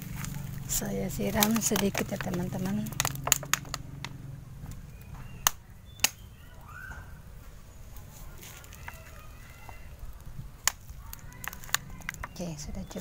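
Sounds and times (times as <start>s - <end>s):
plastic bottle crackling: 0.0s - 6.2s, 8.1s - 13.0s.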